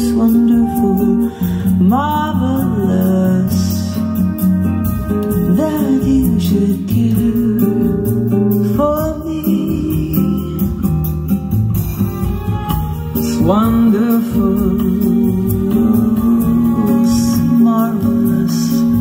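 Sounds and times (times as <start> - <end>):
song with singing and guitar: 0.0 - 19.0.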